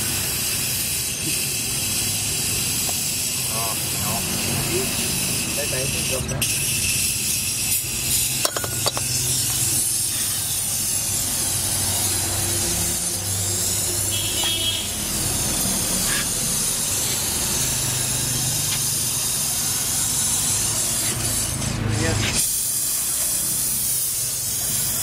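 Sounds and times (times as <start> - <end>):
torch flame hissing: 0.0 - 25.0.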